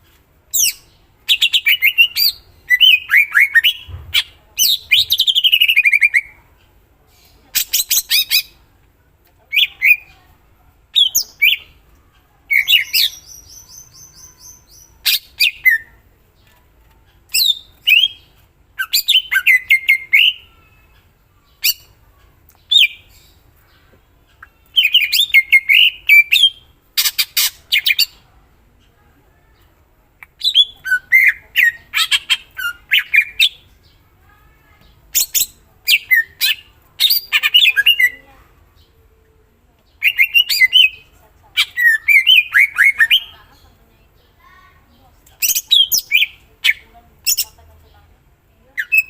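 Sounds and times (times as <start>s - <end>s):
bird singing warbled phrases: 0.4s - 8.8s, 9.4s - 49.0s.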